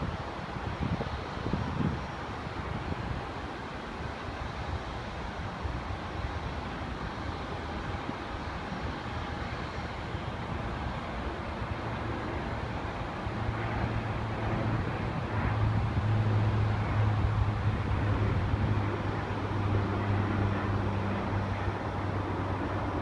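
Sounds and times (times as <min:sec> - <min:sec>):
airliner engine roar: 0:00.0 - 0:23.0.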